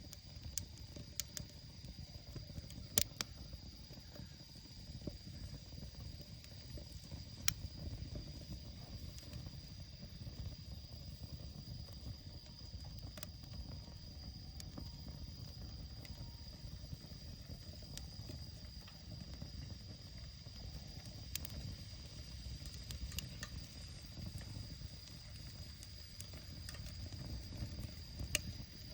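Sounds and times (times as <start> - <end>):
fire flame rushing: 0.0 - 28.9
firewood crackling and popping: 0.0 - 28.9.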